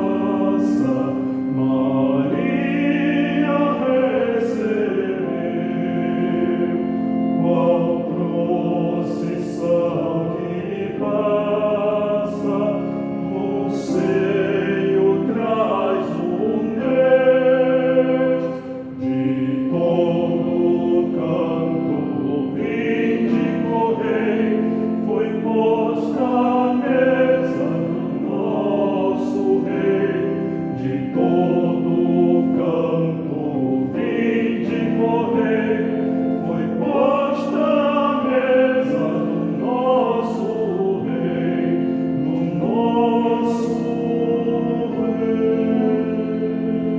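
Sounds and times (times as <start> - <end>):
choir singing a hymn: 0.0 - 46.9.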